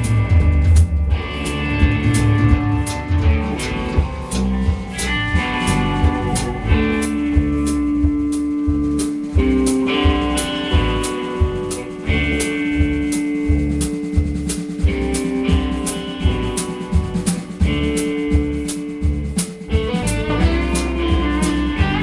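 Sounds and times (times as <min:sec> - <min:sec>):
bass guitar: 0:00.0 - 0:22.0
blues electric guitar: 0:00.0 - 0:22.0
drum kit beat: 0:00.0 - 0:22.0.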